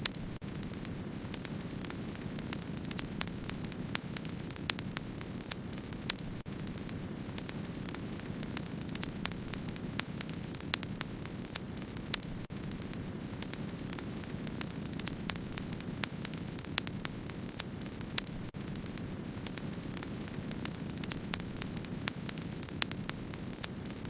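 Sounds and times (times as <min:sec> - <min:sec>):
fire rumbling: 0:00.0 - 0:24.0
wood fire crackling: 0:00.0 - 0:24.0.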